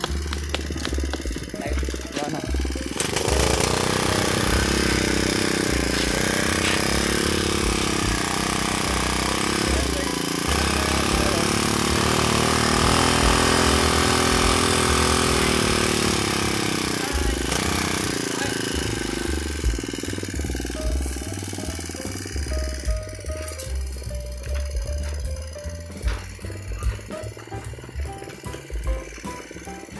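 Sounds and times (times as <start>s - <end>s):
small engine running: 0.0s - 29.9s.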